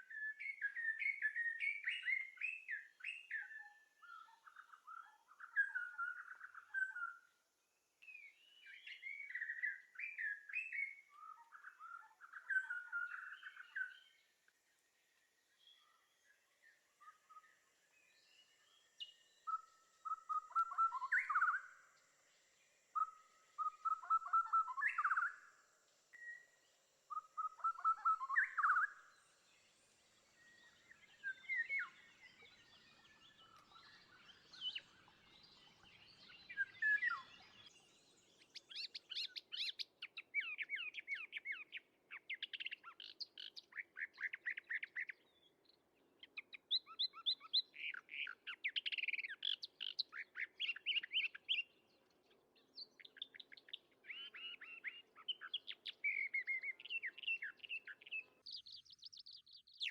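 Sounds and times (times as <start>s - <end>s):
birds singing: 0.0s - 7.3s, 8.0s - 14.4s, 15.6s - 59.9s.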